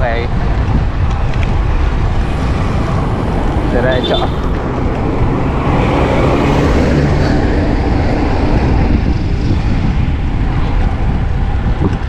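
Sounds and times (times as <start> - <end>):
road traffic: 0.0 - 12.0
wind rushing over microphone: 0.0 - 12.0.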